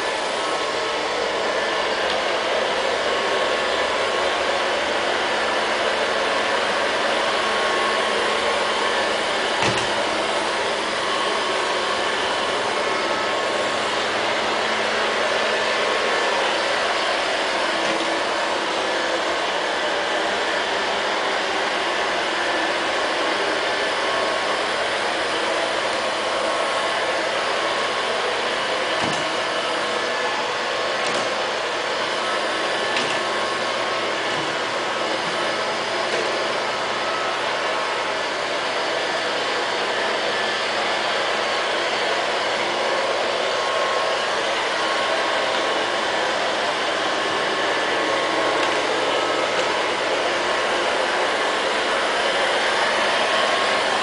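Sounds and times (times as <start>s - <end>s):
robot vacuum cleaner whirring: 0.0s - 54.0s.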